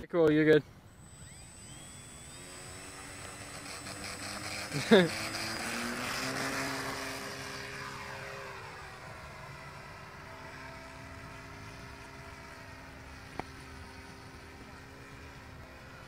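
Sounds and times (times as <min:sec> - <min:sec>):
model plane motor whining: 0:00.8 - 0:16.0.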